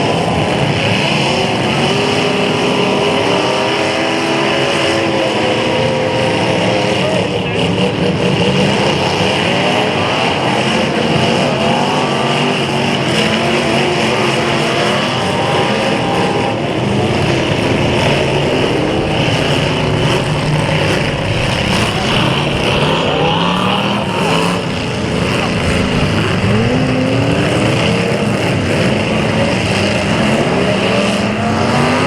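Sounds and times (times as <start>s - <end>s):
car engines revving: 0.0s - 32.0s
cars crashing together: 3.8s - 32.0s.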